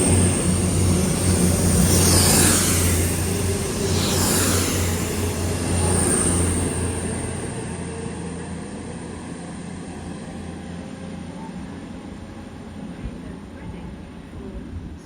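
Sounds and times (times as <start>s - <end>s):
diesel train engine hum and whine: 0.0s - 15.0s.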